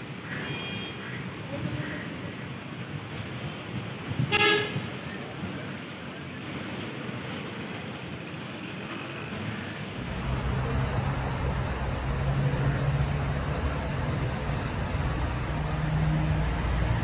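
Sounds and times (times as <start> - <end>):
street noise hiss: 0.0 - 17.0.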